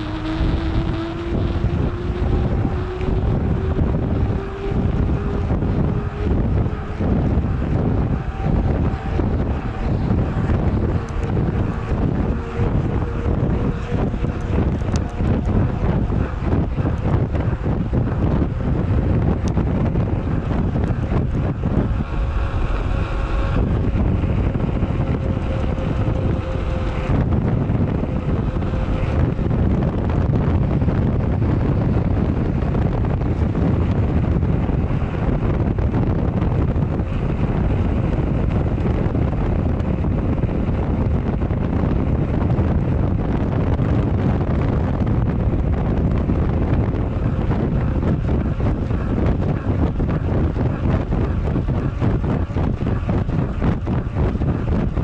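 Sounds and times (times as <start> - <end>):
steady tone: 0.0 - 55.0
wind buffeting microphone: 0.0 - 55.0.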